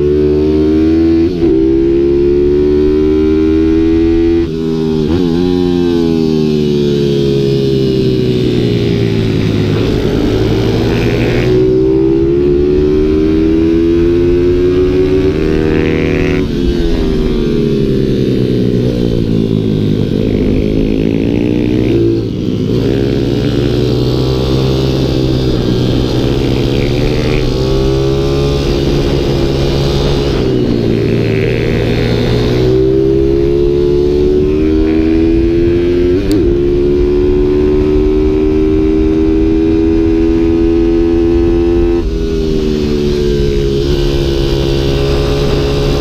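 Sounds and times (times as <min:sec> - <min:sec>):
pit bike engine revving: 0:00.0 - 0:46.0
wind noise on microphone: 0:00.0 - 0:46.0.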